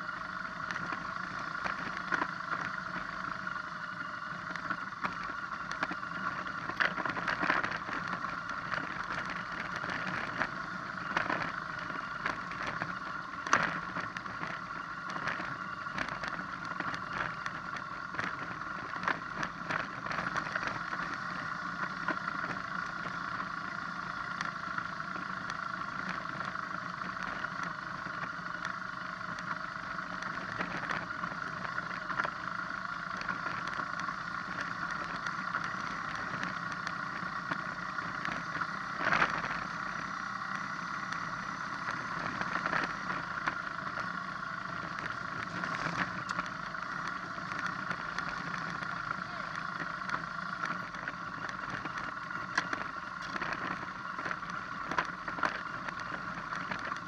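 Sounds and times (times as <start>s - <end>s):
motorcycle engine running: 0.0s - 57.0s
tyres crunching over gravel: 0.0s - 57.0s.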